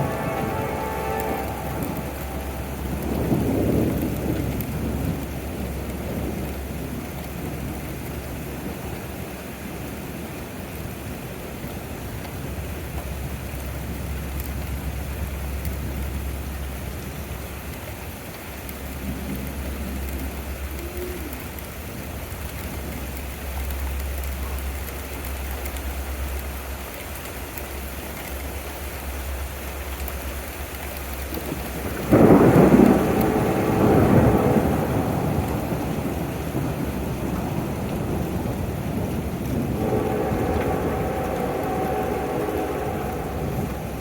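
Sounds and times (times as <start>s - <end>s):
steady rain falling: 0.0s - 44.0s
thunder clap and rumble: 0.0s - 44.0s.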